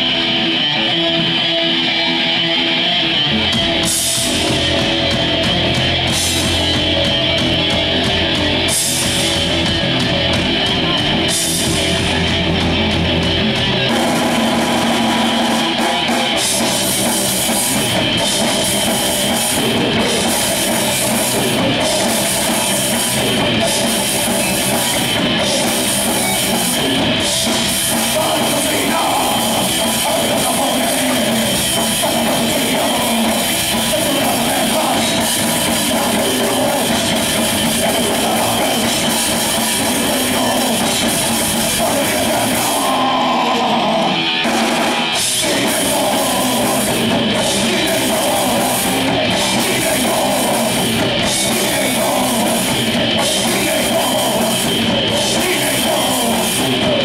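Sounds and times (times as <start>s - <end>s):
bass guitar: 0.0s - 57.0s
electric guitar: 0.0s - 57.0s
drum kit with cymbal crashes: 3.5s - 57.0s.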